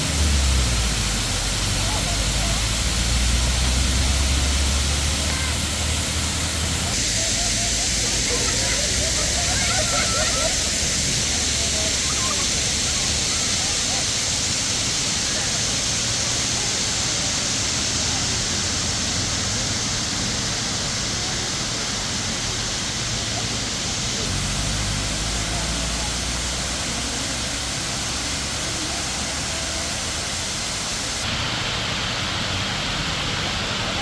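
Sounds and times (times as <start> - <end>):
waterfall rushing and splashing: 0.0 - 34.0.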